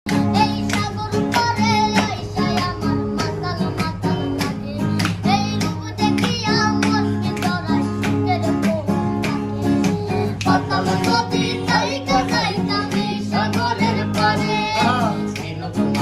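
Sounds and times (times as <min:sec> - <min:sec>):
acoustic guitar strumming: 0:00.1 - 0:16.0
high voice singing: 0:00.1 - 0:16.0.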